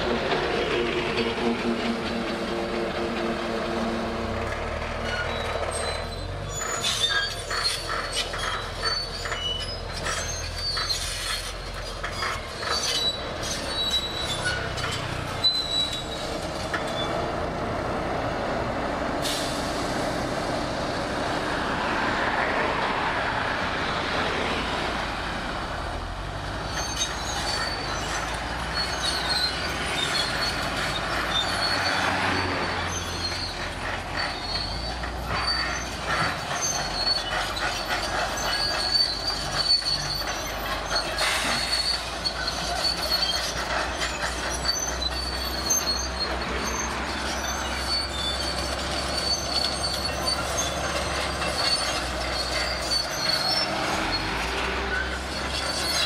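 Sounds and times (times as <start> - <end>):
bulldozer diesel engine: 0.0 - 56.0
steel tracks squealing and clanking: 0.0 - 56.0.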